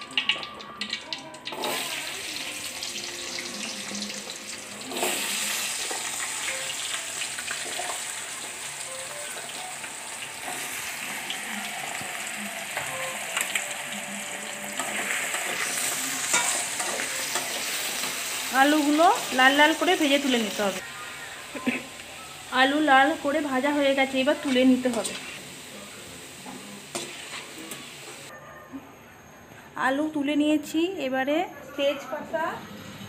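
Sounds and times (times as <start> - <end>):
potatoes sizzling in oil: 0.0 - 28.3.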